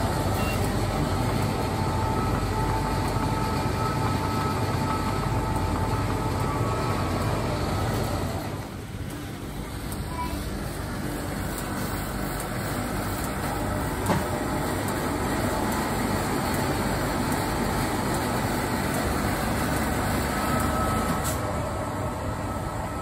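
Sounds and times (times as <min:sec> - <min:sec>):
frozen-drink machine humming: 0:00.0 - 0:23.0.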